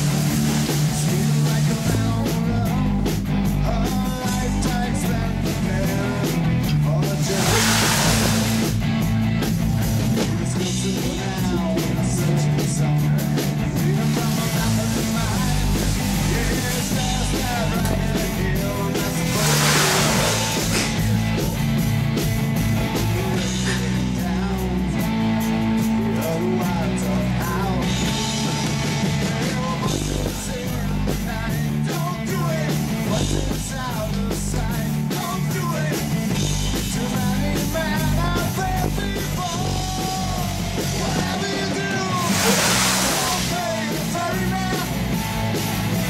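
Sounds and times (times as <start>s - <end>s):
rock music with guitar and bass: 0.0s - 46.0s.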